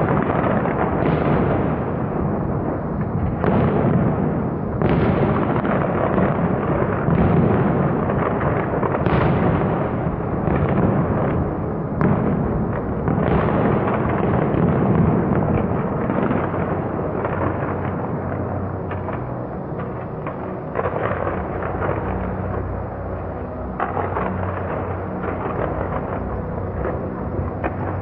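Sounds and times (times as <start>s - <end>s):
fireworks bursts and crackling: 0.0s - 28.0s
heavy firework bangs: 0.0s - 28.0s.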